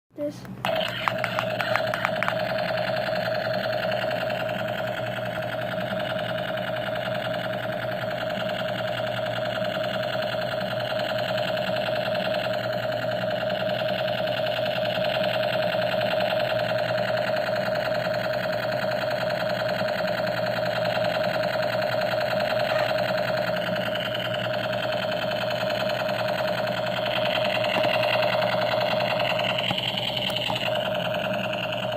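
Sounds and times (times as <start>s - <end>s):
small motor buzzing: 0.6s - 31.9s.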